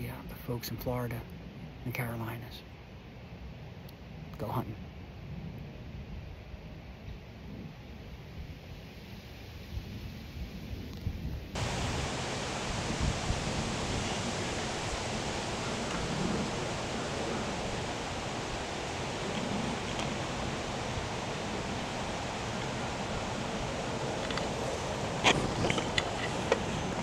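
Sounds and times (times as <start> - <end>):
wind rushing on microphone: 5.3 - 27.0.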